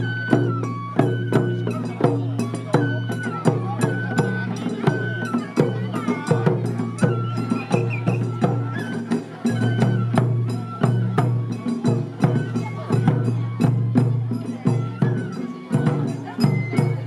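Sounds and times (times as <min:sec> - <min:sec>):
festival drums beating: 0:00.0 - 0:17.0.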